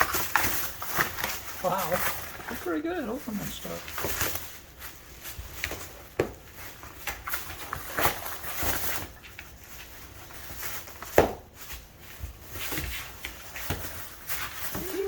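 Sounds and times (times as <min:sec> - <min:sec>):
wrapping paper crinkling and ripping: 0:00.0 - 0:15.0.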